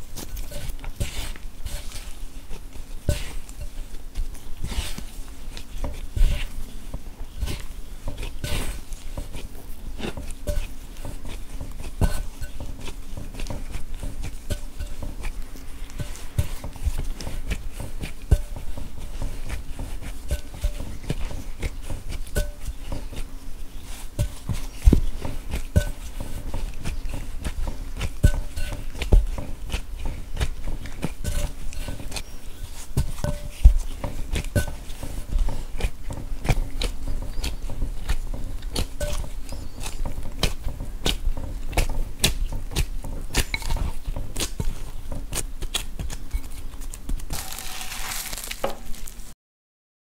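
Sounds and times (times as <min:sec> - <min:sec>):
dough kneaded in glass bowl: 0:00.0 - 0:49.4.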